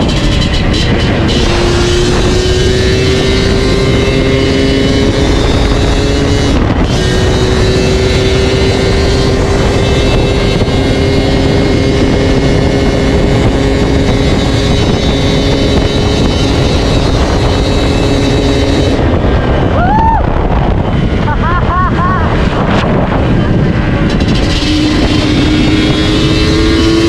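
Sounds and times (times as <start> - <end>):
two-stroke motorcycle engine running: 0.0 - 19.8, 20.5 - 27.0.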